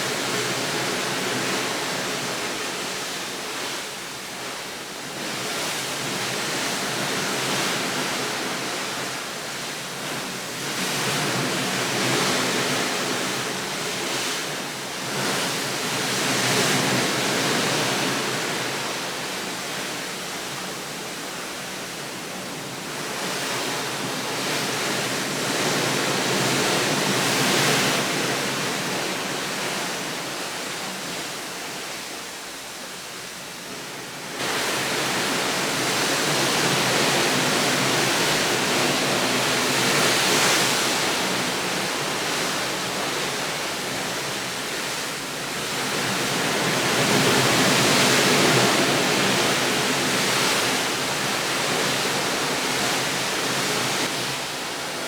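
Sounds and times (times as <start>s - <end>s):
rushing water or surf: 0.0s - 55.0s.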